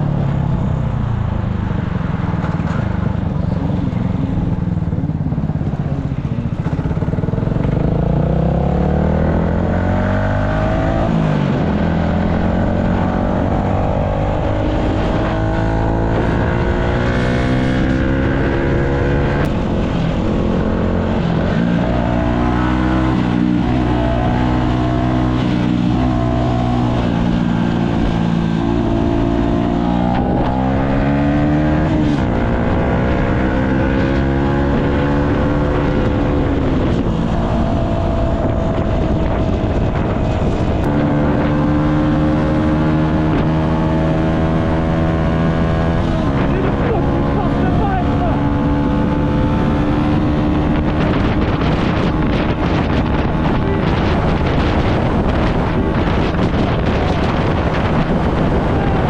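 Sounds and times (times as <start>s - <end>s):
motorcycle engine changing gears: 0.2s - 59.0s.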